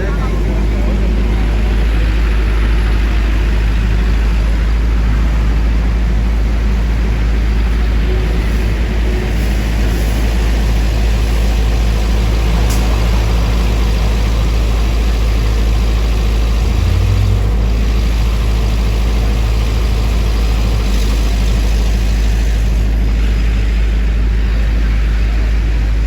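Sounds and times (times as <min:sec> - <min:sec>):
vehicle engines idling: 0:00.0 - 0:26.0.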